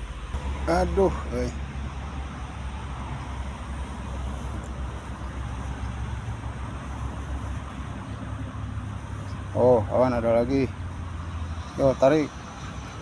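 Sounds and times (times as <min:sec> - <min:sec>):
traffic rumble and hiss: 0:00.0 - 0:13.0.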